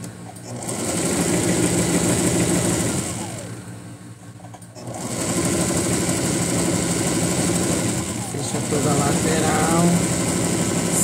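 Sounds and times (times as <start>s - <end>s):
electric sewing machine stitching: 0.0s - 3.6s, 4.8s - 11.0s.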